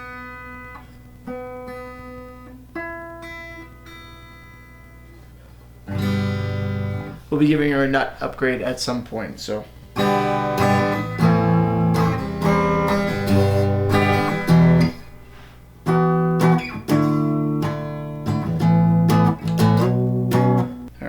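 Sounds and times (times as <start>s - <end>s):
electric guitar strumming chords: 0.0s - 7.3s, 9.7s - 21.0s.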